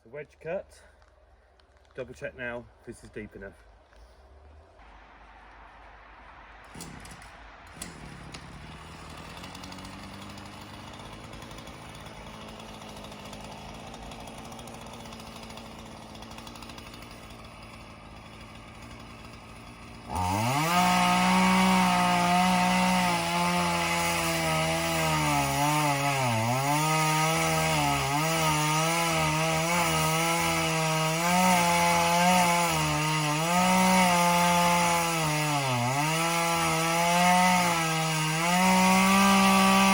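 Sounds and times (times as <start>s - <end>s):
chainsaw cutting wood: 6.6s - 39.9s.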